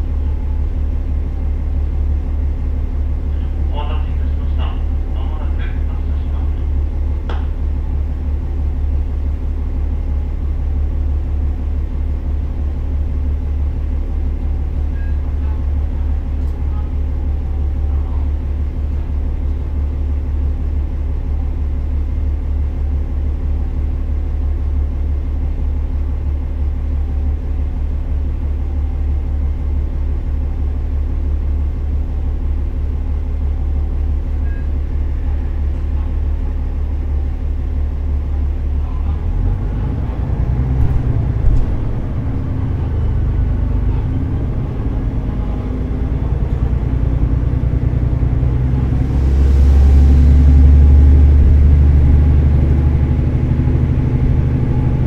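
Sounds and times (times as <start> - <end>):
railcar engine drone: 0.0 - 55.0.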